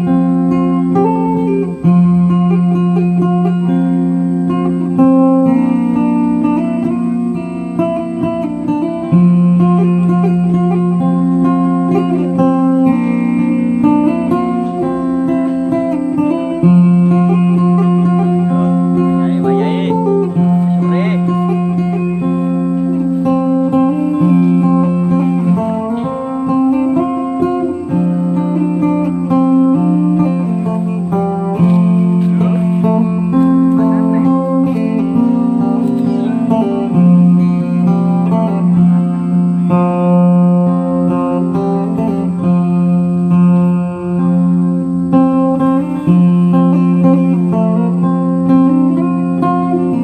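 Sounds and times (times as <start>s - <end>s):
guitar background music: 0.0s - 50.0s.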